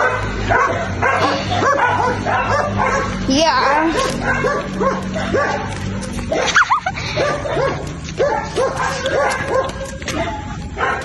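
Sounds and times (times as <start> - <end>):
dog yelp: 0.0 - 11.0
dogs barking: 0.0 - 11.0.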